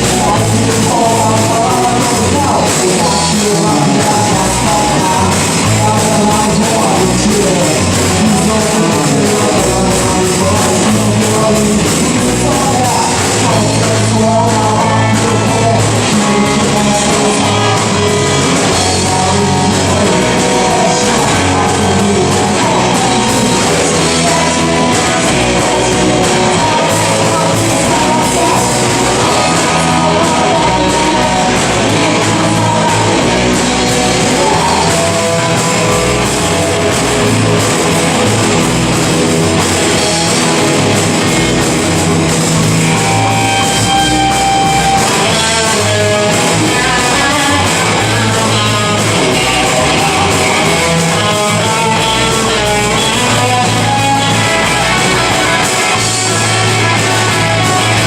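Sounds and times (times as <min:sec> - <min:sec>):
drums: 0:00.0 - 0:58.0
electric guitars: 0:00.0 - 0:58.0
person singing: 0:00.0 - 0:58.0.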